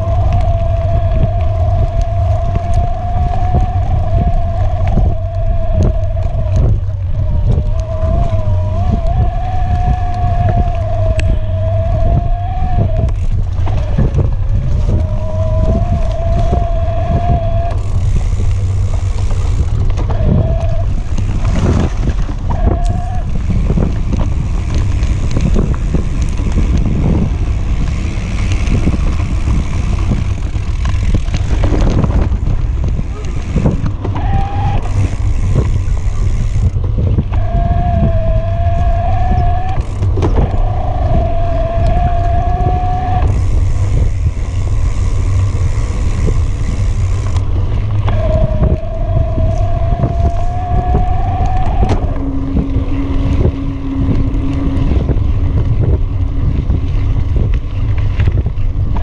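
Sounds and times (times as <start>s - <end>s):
electric motor whine: 0.0s - 57.6s
bike knocking and rattling: 0.0s - 59.0s
wind rumble on microphone: 0.0s - 59.0s.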